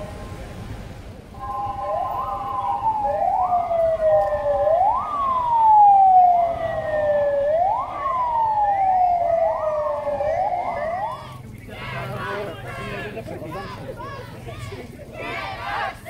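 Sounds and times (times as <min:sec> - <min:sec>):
police sirens wailing: 0:00.0 - 0:16.0.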